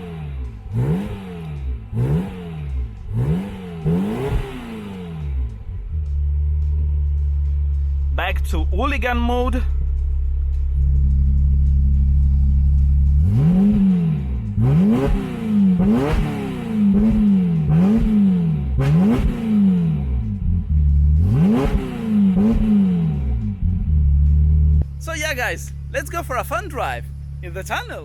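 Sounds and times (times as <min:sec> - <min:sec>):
sports car engine revving: 0:00.0 - 0:28.0.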